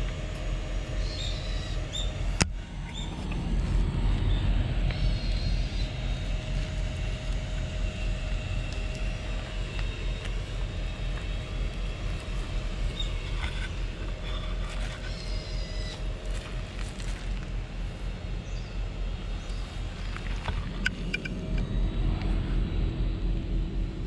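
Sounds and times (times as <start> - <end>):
faint steady hum: 0.0 - 24.0
low outdoor rumble: 0.0 - 24.0.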